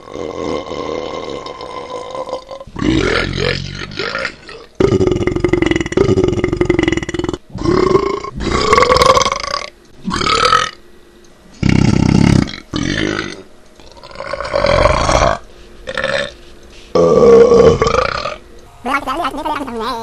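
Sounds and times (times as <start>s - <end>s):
man burping: 0.0s - 10.8s, 11.6s - 16.3s, 17.0s - 18.4s.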